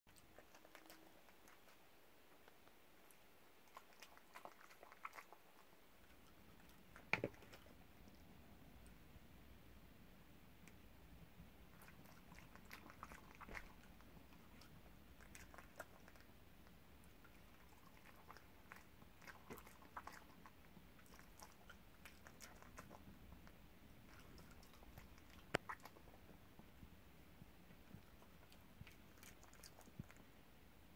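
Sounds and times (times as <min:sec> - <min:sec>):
dogs chewing: 0:00.1 - 0:08.3, 0:11.6 - 0:26.8, 0:27.7 - 0:30.3.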